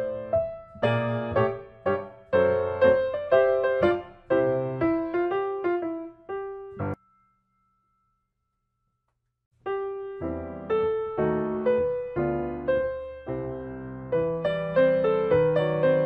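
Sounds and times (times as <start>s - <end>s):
piano music: 0.0s - 8.1s, 9.6s - 16.0s.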